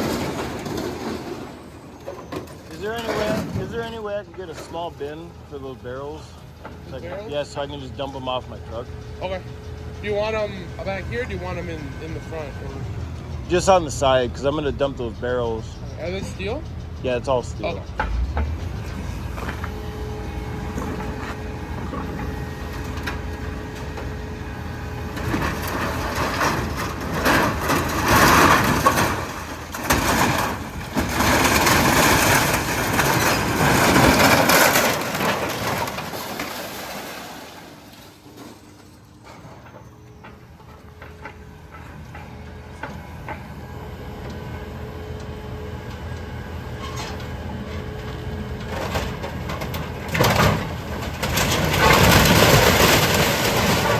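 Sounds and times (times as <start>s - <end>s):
truck engine running: 0.0s - 37.0s, 37.6s - 53.9s.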